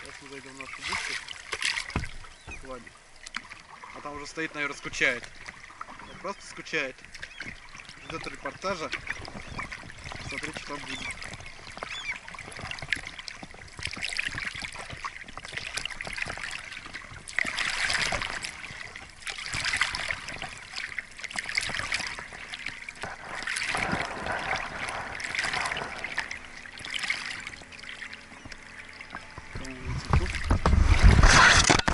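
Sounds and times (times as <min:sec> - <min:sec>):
water splashing around paddled boat: 0:00.0 - 0:31.9.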